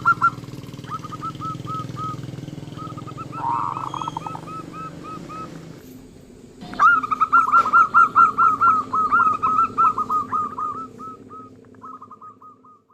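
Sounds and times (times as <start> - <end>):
dove cooing: 0.0 - 12.9
low steady hum: 0.0 - 12.9.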